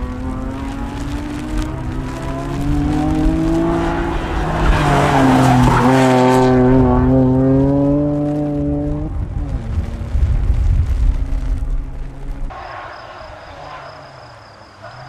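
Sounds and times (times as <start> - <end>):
car engine at high revs: 0.0 - 12.6
tyres skidding on asphalt: 0.0 - 15.0.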